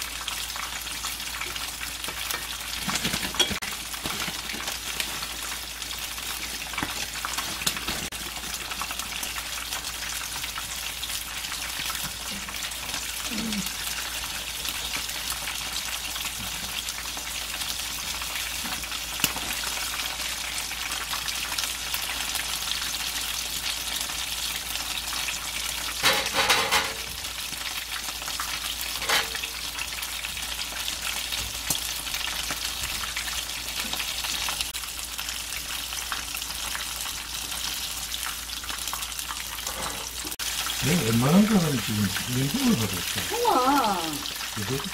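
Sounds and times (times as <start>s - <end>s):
food deep-frying in oil: 0.0s - 44.9s.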